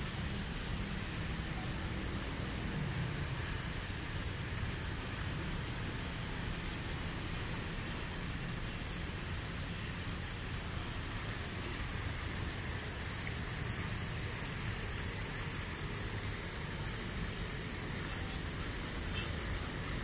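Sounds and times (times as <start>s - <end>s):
fountain water splashing: 0.0s - 20.0s
water cascading over stone: 0.0s - 20.0s.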